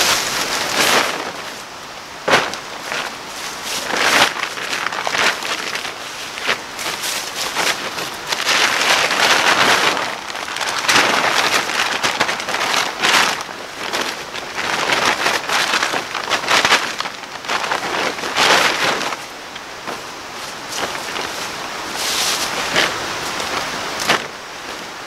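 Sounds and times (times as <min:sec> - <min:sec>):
plastic tarp crinkling: 0:00.0 - 0:25.0.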